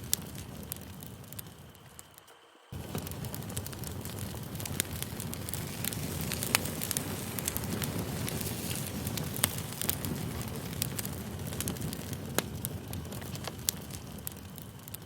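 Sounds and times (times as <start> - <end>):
campfire crackling and popping: 0.0 - 15.0
low rumble of flame: 0.0 - 15.0.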